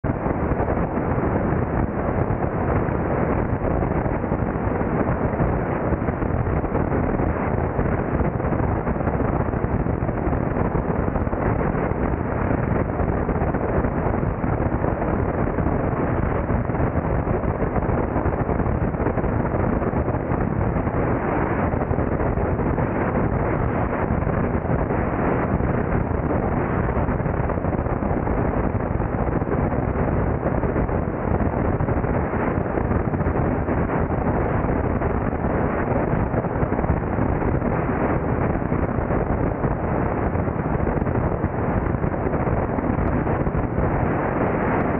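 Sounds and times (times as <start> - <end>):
aircraft engine and propeller: 0.0 - 44.9
wind buffeting microphone: 0.0 - 44.9.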